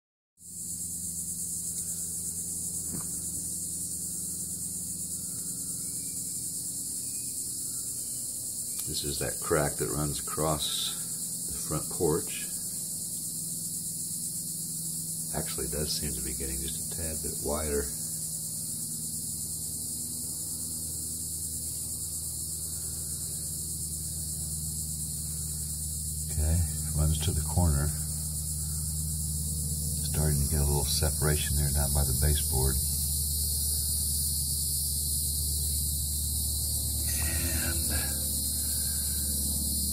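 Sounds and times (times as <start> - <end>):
insects buzzing shrilly: 0.4 - 39.9
steady low hum: 0.4 - 39.9
high hiss: 0.5 - 39.9.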